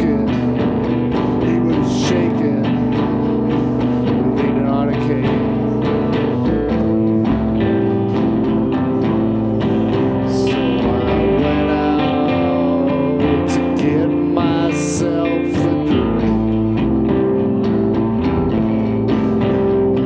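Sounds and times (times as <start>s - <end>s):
electric guitar with effects: 0.0s - 20.0s.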